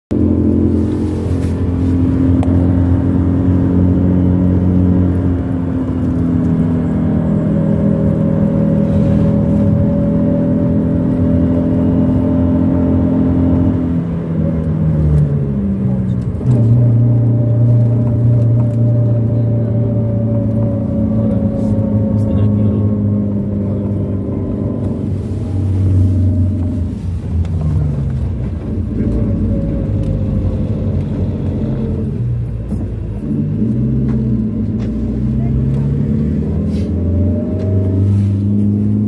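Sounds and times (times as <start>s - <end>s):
vehicle engine running: 0.1s - 39.0s.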